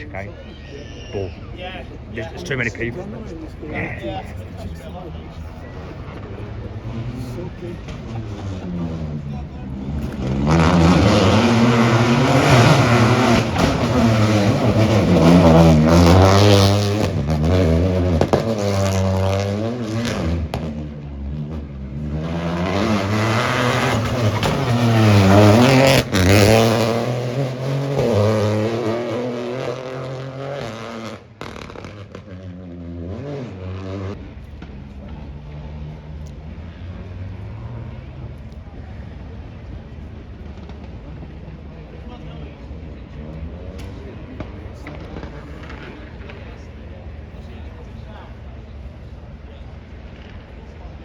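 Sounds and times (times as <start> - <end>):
rally car engine revving: 2.0 - 47.9.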